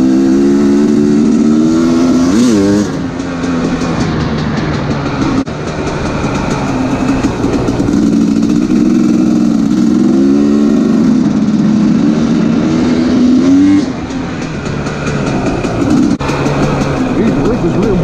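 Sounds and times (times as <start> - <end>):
two-stroke motorcycle engine: 0.0 - 18.0.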